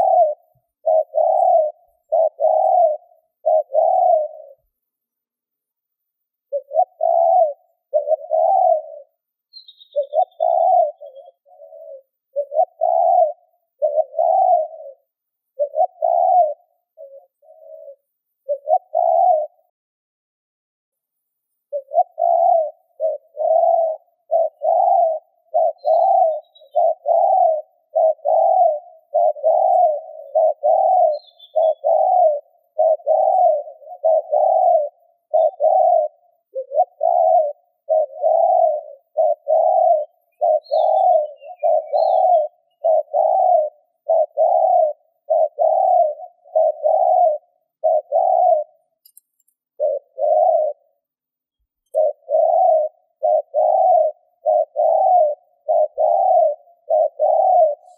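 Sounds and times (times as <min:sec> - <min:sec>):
dove cooing rapidly: 0:00.0 - 0:04.8, 0:06.4 - 0:19.7, 0:21.7 - 0:51.2, 0:51.8 - 0:57.9.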